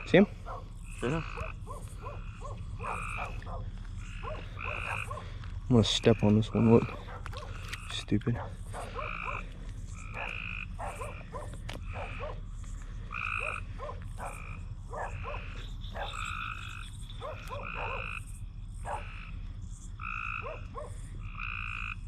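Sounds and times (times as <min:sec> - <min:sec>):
frogs calling: 0:00.0 - 0:22.0.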